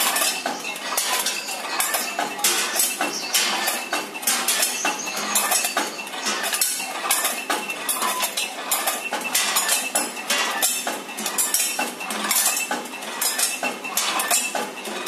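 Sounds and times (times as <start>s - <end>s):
candy clattering through machine: 0.0s - 15.0s.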